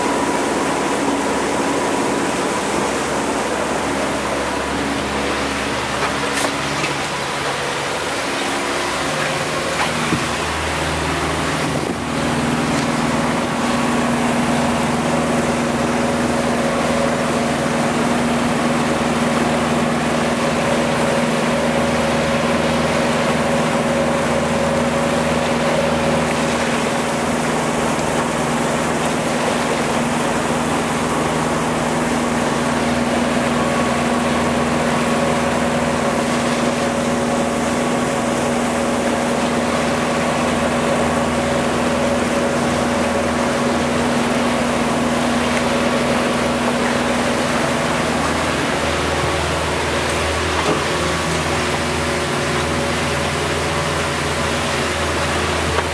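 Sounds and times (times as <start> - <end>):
outboard motor humming: 0.0 - 55.9
water rushing along hull: 0.0 - 55.9.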